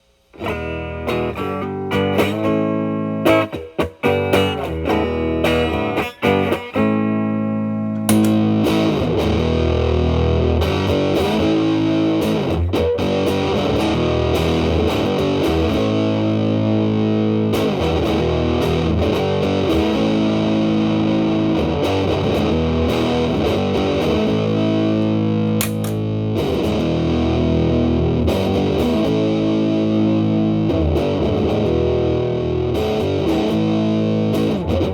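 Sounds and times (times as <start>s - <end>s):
clean electric guitar notes and chords: 0.3s - 34.9s
fuzz electric guitar: 0.3s - 34.9s.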